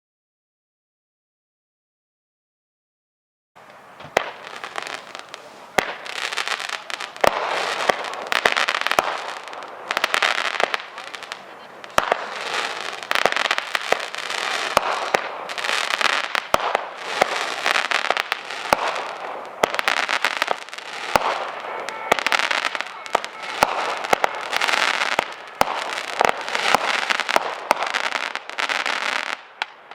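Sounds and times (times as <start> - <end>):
firework crackling: 3.6 - 29.9
firework launch shots: 4.0 - 29.9.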